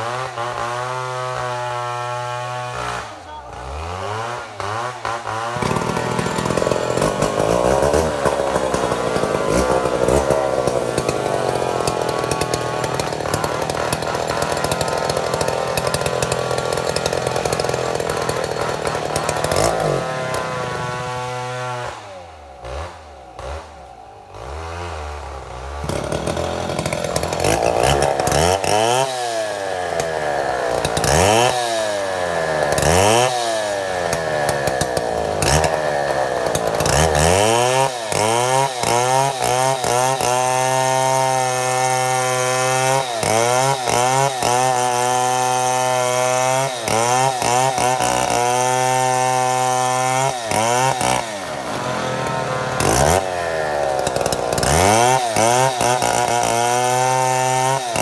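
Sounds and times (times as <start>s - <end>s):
chainsaw cutting a log: 0.0s - 58.0s.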